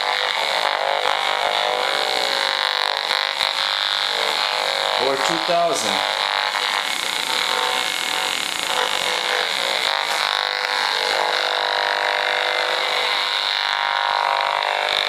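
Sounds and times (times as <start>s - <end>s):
steady electric buzz from meter: 0.0s - 15.0s.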